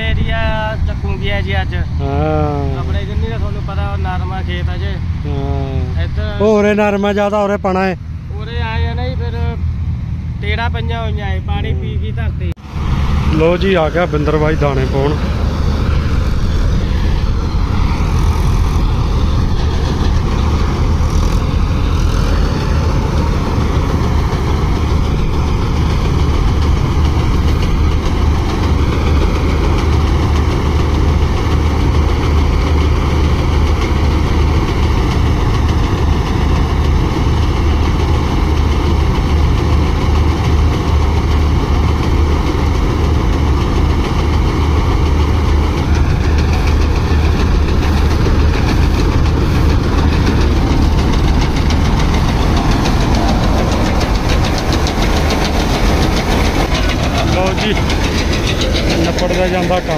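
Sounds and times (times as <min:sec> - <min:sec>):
combine harvester running: 0:00.0 - 0:59.9
tractor engine idling: 0:00.1 - 0:59.9.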